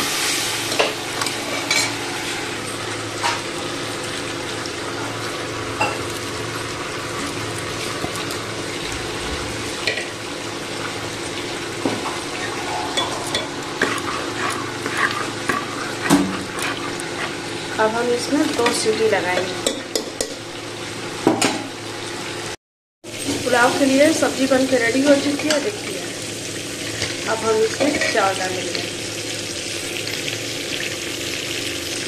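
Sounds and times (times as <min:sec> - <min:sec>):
masala sizzling in a pot: 0:00.0 - 0:32.0.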